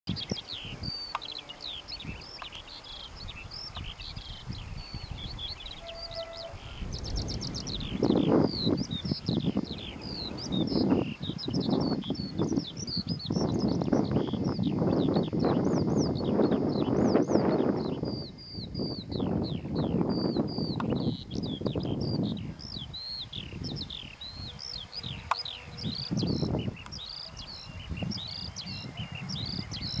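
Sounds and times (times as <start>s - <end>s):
skylark singing: 0.1s - 30.0s.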